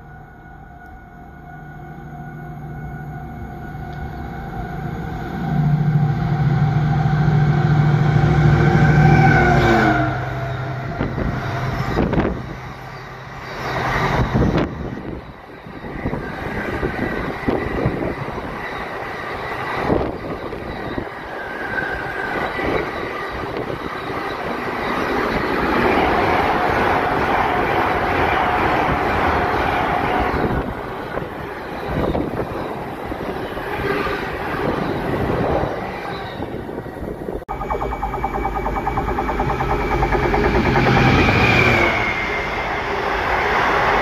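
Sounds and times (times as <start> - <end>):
locomotive drone: 0.0 - 44.0
train wagons rumbling and clattering: 2.8 - 44.0.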